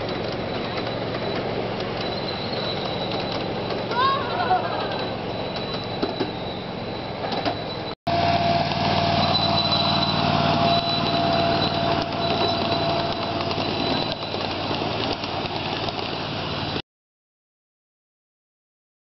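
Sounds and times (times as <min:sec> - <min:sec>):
model train engine whining: 0:00.0 - 0:16.8.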